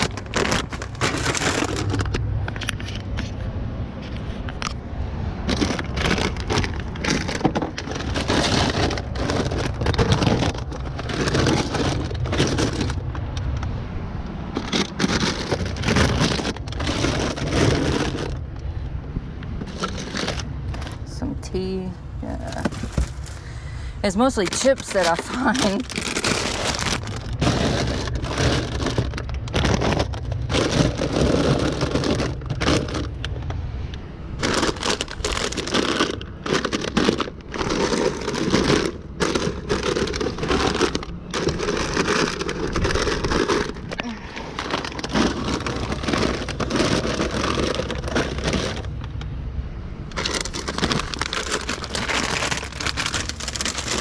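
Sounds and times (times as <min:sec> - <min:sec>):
plastic snack bags crinkling: 0:00.0 - 0:03.2, 0:05.4 - 0:13.6, 0:14.5 - 0:18.6, 0:19.6 - 0:21.1, 0:22.4 - 0:33.4, 0:34.4 - 0:49.2, 0:50.1 - 0:54.0.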